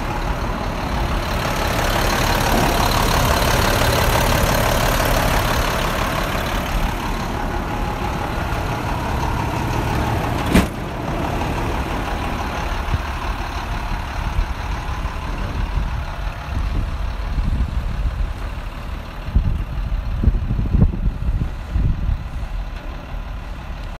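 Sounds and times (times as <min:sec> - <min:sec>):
truck diesel engine idling: 0:00.0 - 0:24.0.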